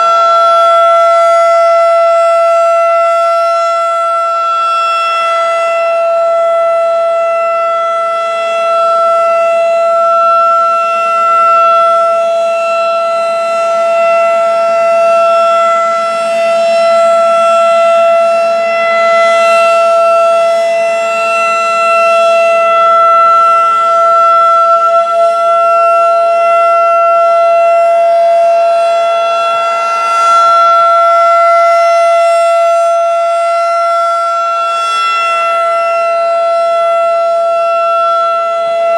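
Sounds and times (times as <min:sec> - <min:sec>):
rotating siren steady tone: 0:00.0 - 0:38.9.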